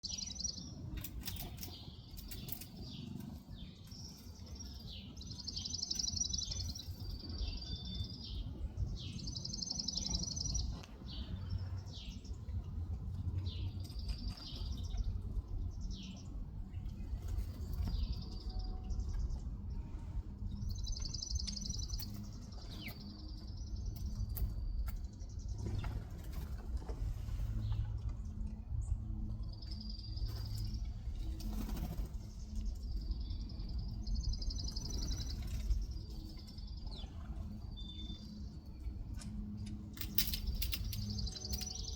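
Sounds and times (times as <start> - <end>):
birds chirping and trilling: 0.0 - 41.9
low background rumble: 0.0 - 41.9.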